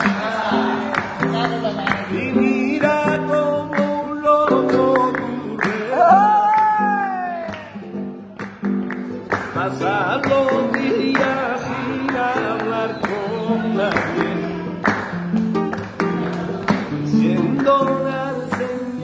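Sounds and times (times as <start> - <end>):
guitar chords and runs: 0.0 - 19.0
man singing flamenco: 0.0 - 19.0.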